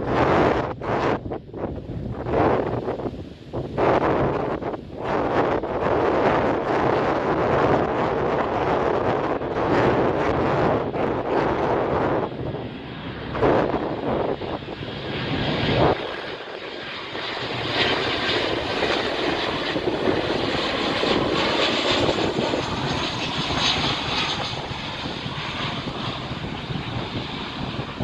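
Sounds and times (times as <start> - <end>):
aircraft engines rushing: 0.0 - 28.0.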